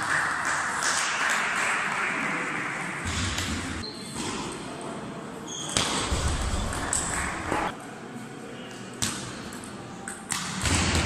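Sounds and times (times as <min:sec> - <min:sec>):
table tennis hall ambience: 0:00.0 - 0:11.0.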